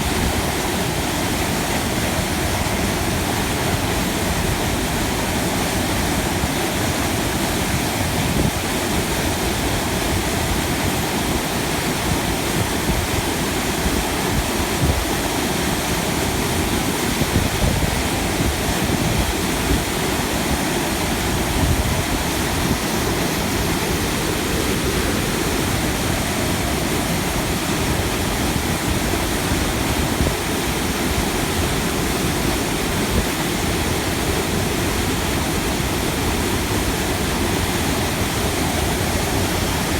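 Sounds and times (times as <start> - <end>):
river water rushing over rapids: 0.0 - 39.9.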